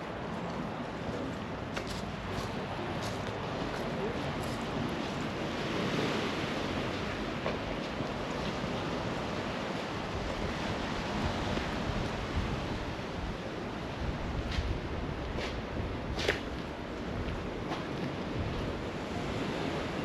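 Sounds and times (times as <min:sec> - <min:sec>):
sea waves washing onto beach: 0:00.1 - 0:20.0.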